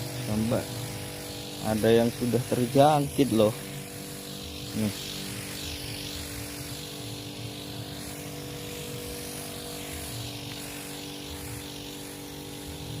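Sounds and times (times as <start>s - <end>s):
spray hissing from nozzle: 0.0s - 13.0s
sprayer motor drone: 0.0s - 13.0s.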